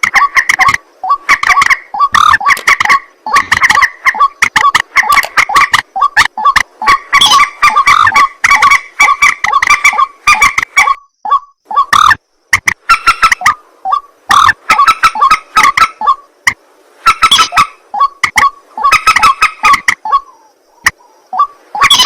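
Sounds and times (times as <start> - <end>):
bird croaking calls: 0.0 - 12.2, 12.8 - 16.3, 17.0 - 22.0.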